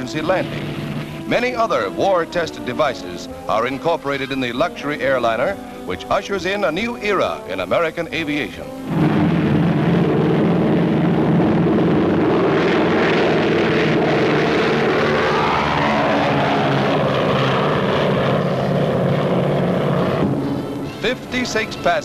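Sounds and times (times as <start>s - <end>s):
airliner propeller engines droning: 0.0s - 22.0s.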